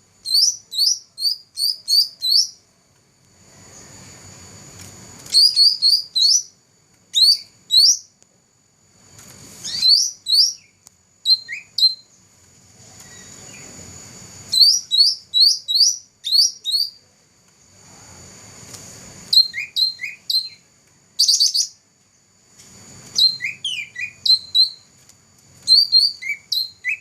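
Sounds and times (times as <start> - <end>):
songbird chirping: 0.0 - 8.4, 9.4 - 18.0, 19.2 - 27.0.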